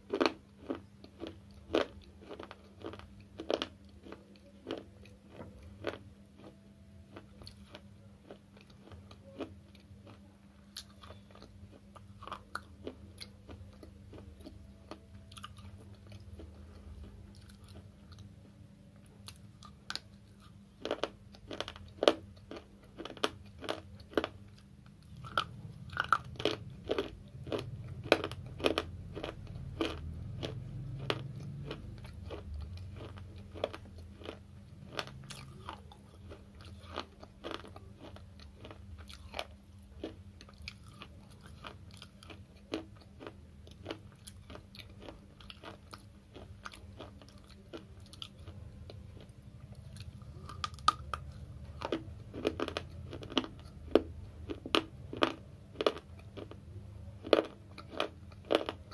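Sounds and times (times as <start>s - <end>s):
chewing crunchy chips: 0.0s - 58.9s.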